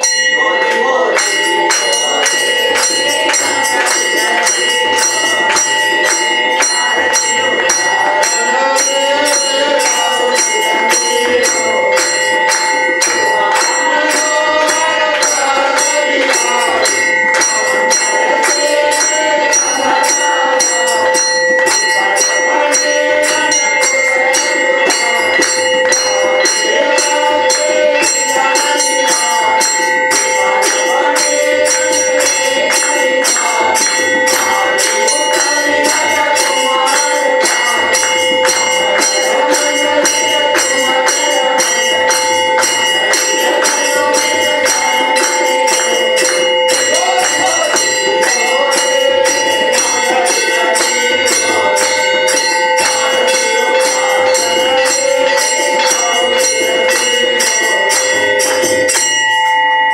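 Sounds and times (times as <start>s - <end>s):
temple bells ringing rapidly: 0.0s - 59.9s.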